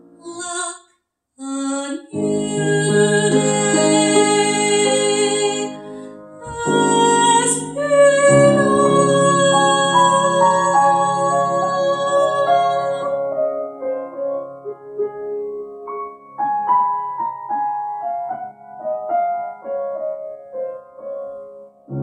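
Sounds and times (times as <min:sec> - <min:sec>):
piano chords and notes: 0:00.0 - 0:00.7, 0:01.8 - 0:22.0.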